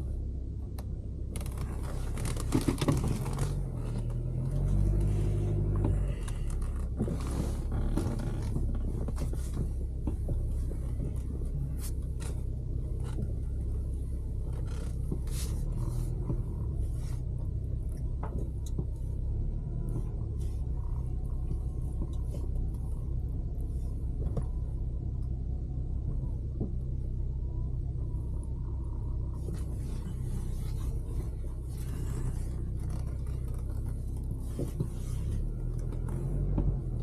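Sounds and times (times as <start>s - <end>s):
car rumbling: 0.0s - 37.0s
faint clicks and knocks: 0.7s - 25.4s, 26.0s - 37.0s.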